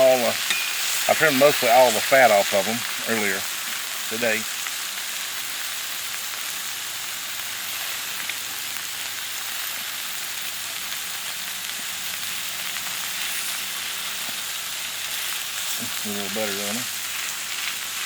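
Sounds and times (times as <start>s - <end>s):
meat sizzling on a griddle: 0.0s - 18.0s.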